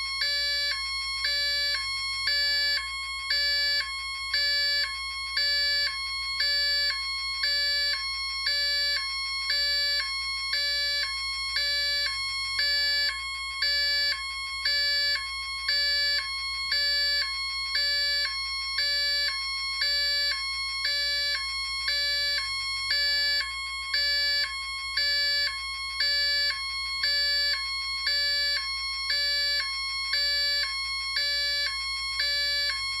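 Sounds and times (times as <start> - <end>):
two-tone electronic siren: 0.0 - 33.0.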